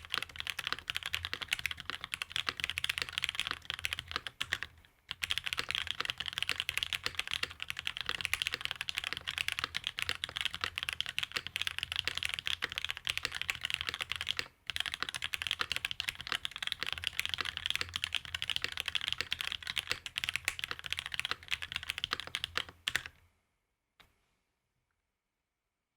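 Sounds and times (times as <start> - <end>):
fast typing on mechanical keyboard: 0.0 - 23.1.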